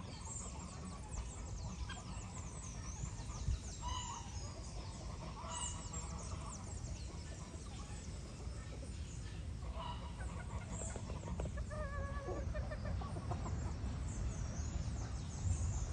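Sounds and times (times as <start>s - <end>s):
chickens clucking: 0.0s - 14.0s
small birds chirping: 0.0s - 15.9s.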